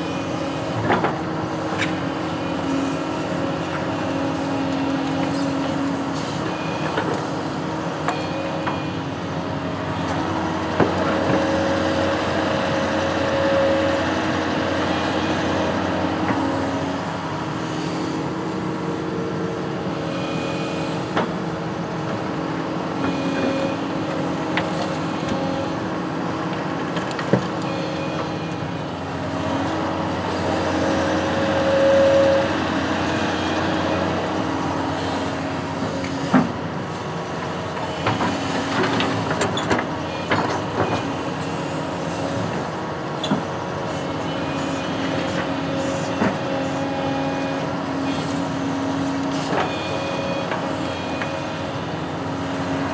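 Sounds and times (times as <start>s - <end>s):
construction machine engine running: 0.0s - 52.9s.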